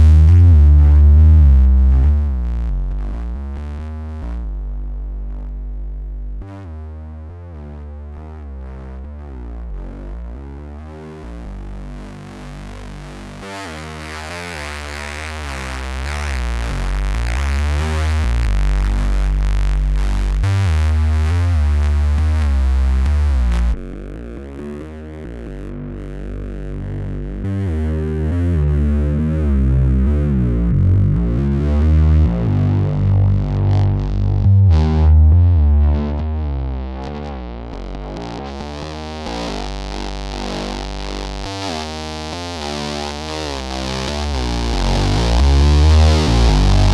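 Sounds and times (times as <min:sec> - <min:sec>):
distorted synthesizer bass sequence: 0:00.0 - 0:46.9.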